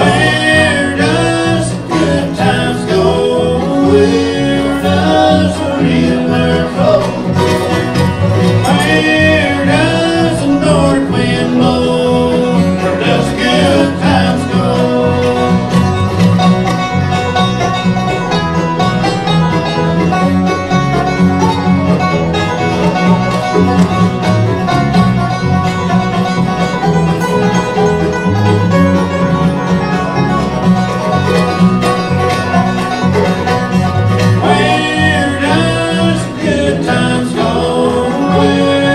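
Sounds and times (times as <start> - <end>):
banjo: 0.0 - 38.9
bluegrass band playing: 0.0 - 38.9
guitar: 0.0 - 38.9.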